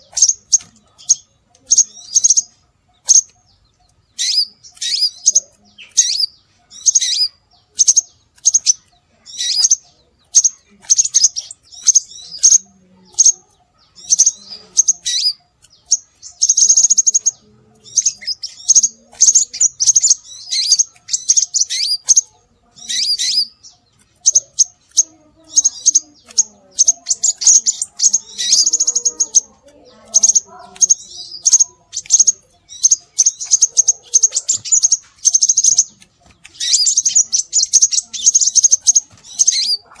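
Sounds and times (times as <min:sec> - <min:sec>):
bird chirps and trills: 0:00.0 - 0:40.0.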